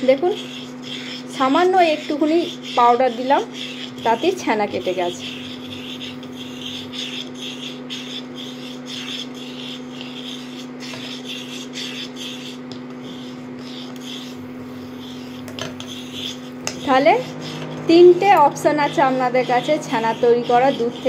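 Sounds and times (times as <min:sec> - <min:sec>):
cooktop hum: 0:00.0 - 0:21.0
spatula scraping saucepan: 0:00.0 - 0:21.0.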